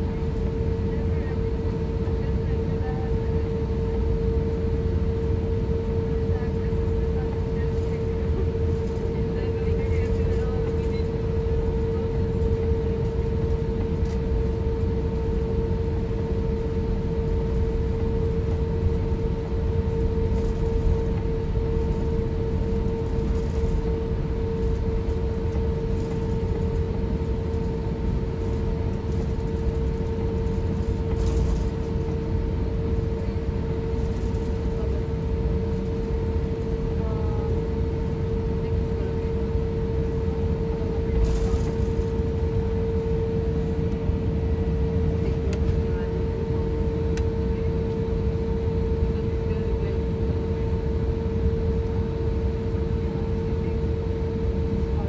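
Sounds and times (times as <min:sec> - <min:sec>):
airliner cabin rumble: 0:00.0 - 0:55.0
constant engine whine: 0:00.0 - 0:55.0.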